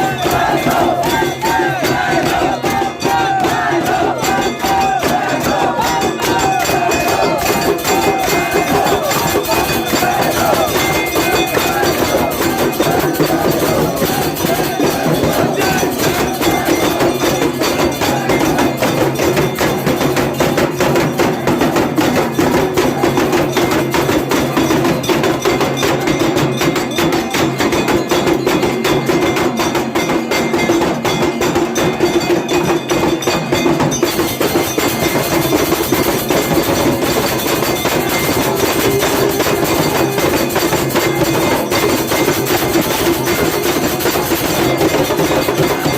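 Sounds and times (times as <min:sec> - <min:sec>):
bells ringing: 0:00.0 - 0:45.9
drums struck rapidly: 0:00.0 - 0:45.9.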